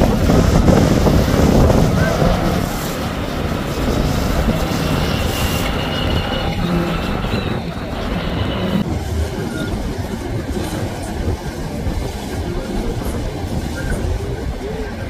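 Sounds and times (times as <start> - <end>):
motorboat engines running: 0.0 - 15.0
rush of spray: 0.0 - 15.0
wind: 0.0 - 15.0.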